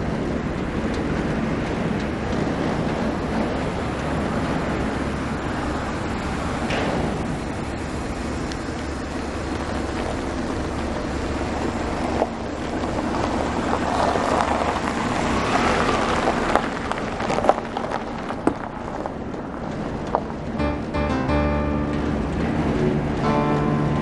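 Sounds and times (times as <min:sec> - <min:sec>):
car passing on gravel: 0:00.0 - 0:24.0.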